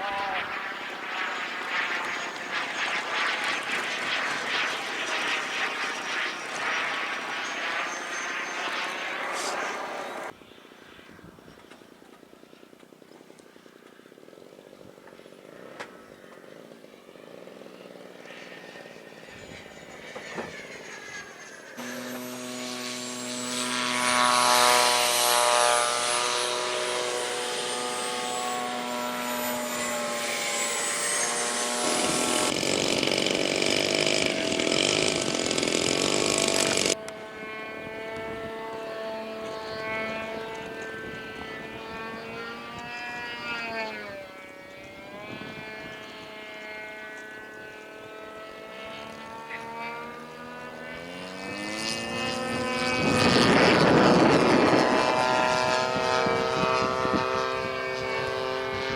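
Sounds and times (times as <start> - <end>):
model aircraft engine whine: 0.0 - 58.9.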